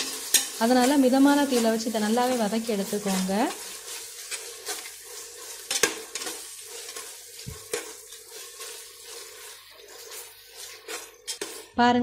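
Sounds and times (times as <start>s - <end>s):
onions sizzling in oil: 0.0s - 11.8s.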